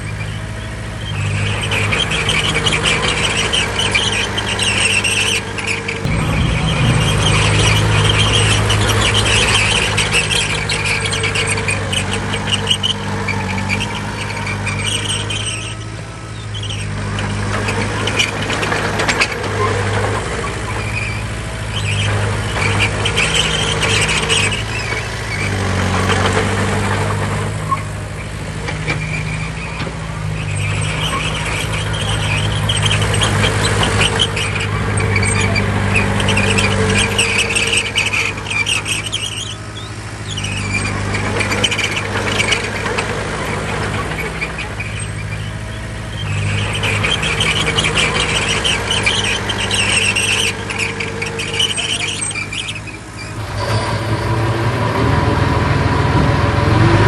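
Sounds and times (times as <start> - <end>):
diesel machinery engine: 0.0 - 57.0
high squeal: 0.0 - 57.0
metal clanks: 1.5 - 54.5.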